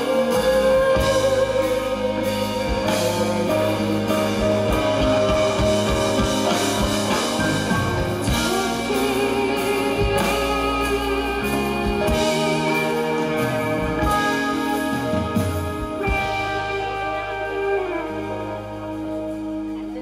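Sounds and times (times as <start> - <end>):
band music with guitar and drums: 0.0 - 20.0.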